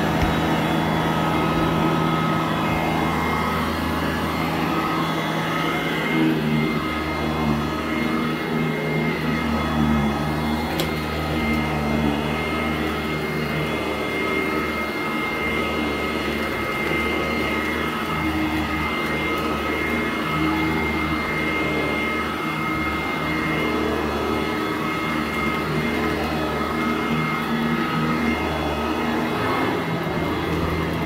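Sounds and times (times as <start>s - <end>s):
upright vacuum running: 0.0s - 31.0s.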